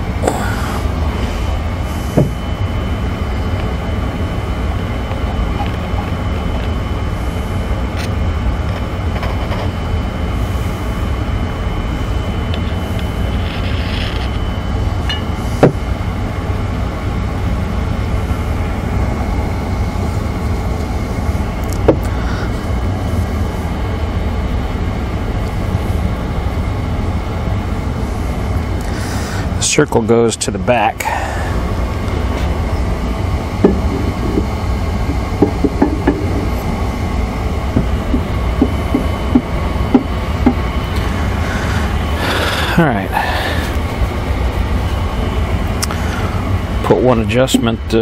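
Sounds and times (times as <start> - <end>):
low shop rumble: 0.0 - 48.0.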